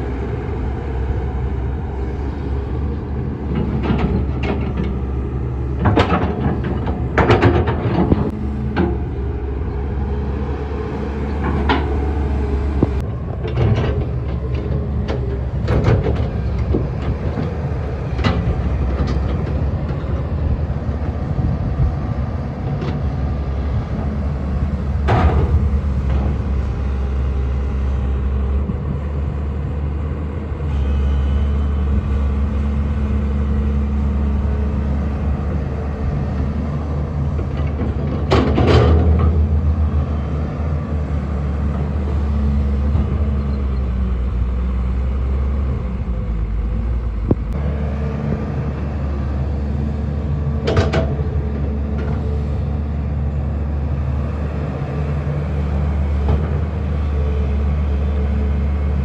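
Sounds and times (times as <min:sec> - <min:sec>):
diesel excavator running: 0:00.0 - 0:59.0.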